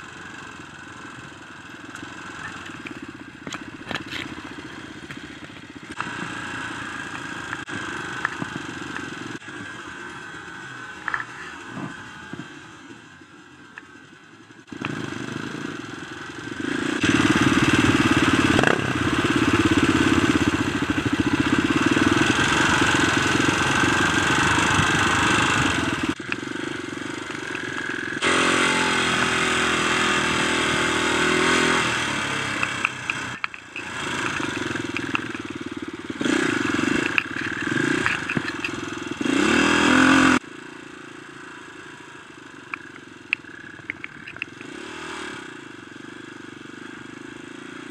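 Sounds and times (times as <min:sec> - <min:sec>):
dirt bike engine revving: 0:02.0 - 0:12.7, 0:14.7 - 0:40.5, 0:42.7 - 0:45.7.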